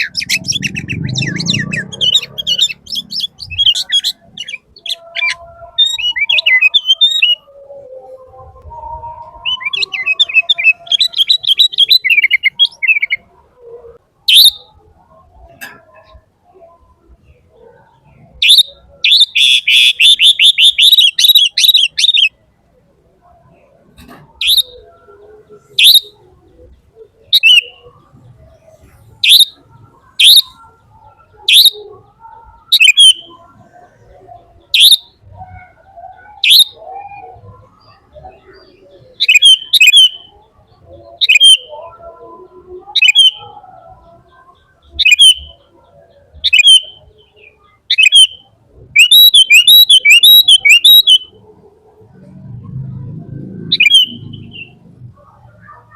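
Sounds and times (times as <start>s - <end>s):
bird chirping: 0.0s - 8.3s, 9.0s - 22.4s, 23.6s - 51.5s, 53.4s - 55.9s.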